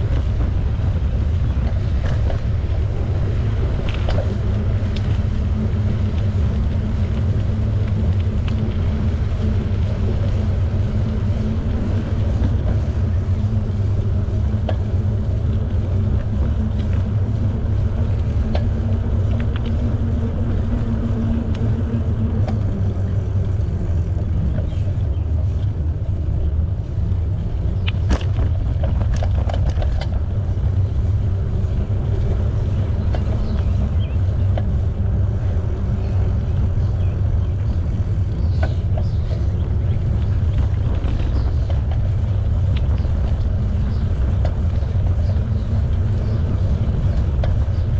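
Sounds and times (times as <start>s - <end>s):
bicycle tyres rolling: 0.0s - 47.9s
faint hum: 0.0s - 47.9s
wind on microphone: 0.0s - 47.9s.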